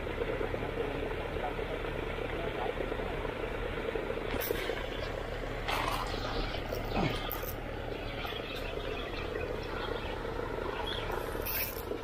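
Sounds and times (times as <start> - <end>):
pond aerator motor drone: 0.0 - 12.0.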